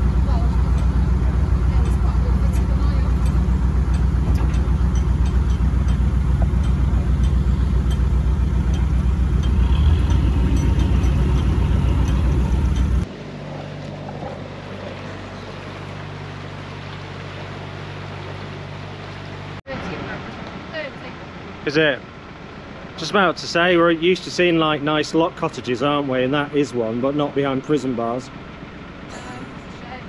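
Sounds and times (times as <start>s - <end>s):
boat diesel engine running: 0.0s - 30.0s.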